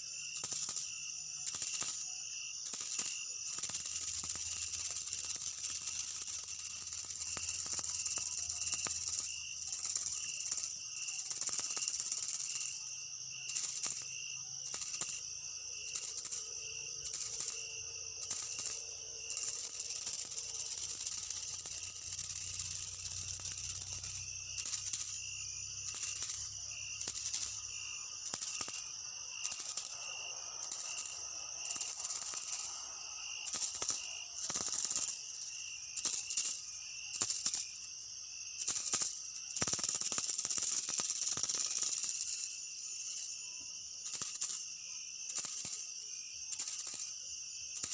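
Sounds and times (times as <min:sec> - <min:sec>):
insects chorus: 0:00.0 - 0:47.9
pulsing insect trill: 0:00.0 - 0:47.9.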